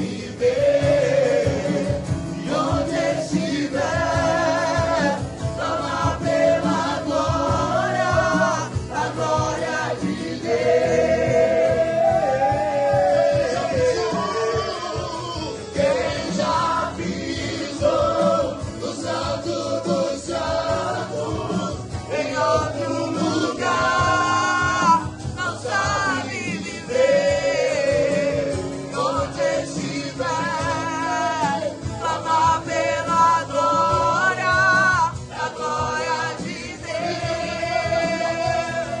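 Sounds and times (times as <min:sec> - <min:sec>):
band accompaniment: 0:00.0 - 0:39.0
voices singing together: 0:00.0 - 0:39.0.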